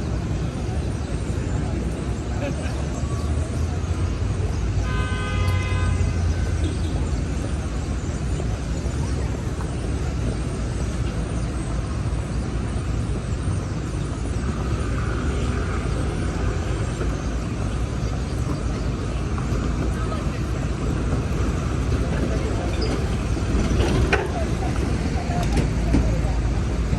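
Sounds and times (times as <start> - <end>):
street traffic rumble: 0.0 - 26.9.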